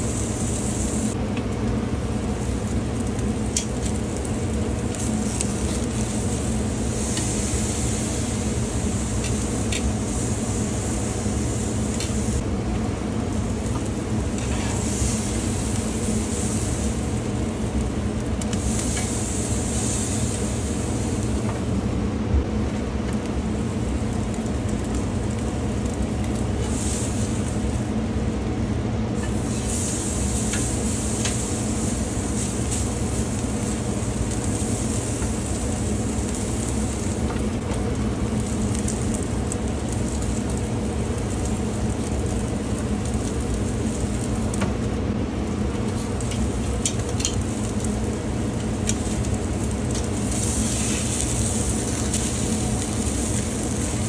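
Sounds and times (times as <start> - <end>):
steak sizzling on grill: 0.0 - 1.2, 1.9 - 21.5, 23.1 - 28.0, 29.2 - 54.0
crackles: 0.2 - 21.7, 22.8 - 54.0.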